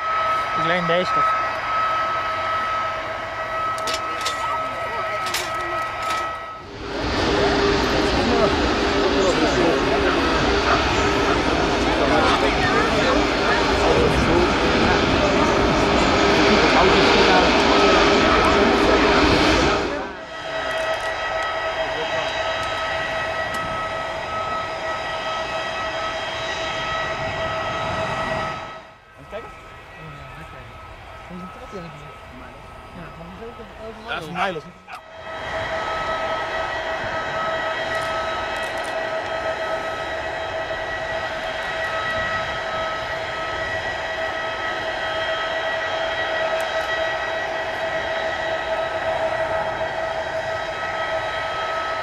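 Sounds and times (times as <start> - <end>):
jet engines roaring with whine: 0.0 - 52.0.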